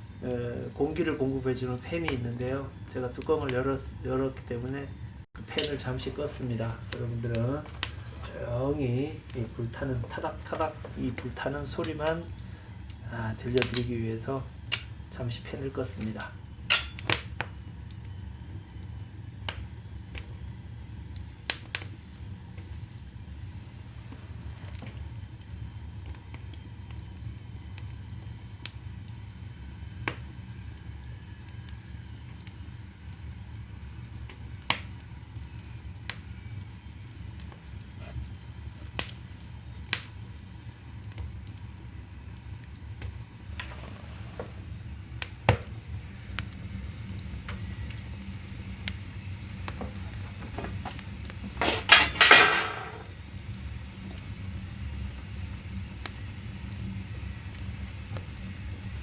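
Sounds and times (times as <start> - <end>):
fire crackling and popping: 0.0 - 59.0
low fire rumble: 0.0 - 59.0.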